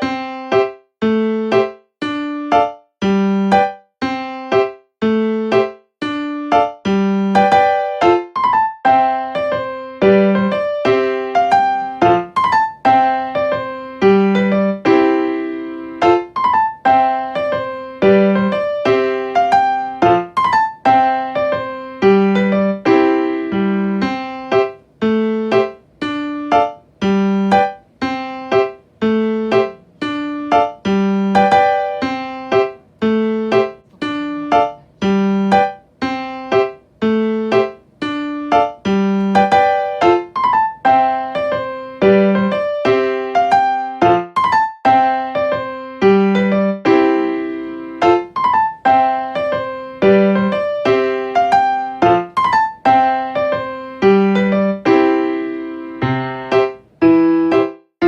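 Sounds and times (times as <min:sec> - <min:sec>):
light piano tune: 0:00.0 - 0:58.0.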